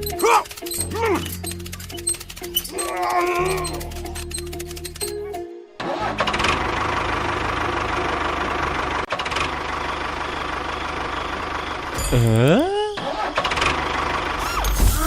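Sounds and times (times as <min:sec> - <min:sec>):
small engine running: 0:00.0 - 0:05.2, 0:05.9 - 0:15.0.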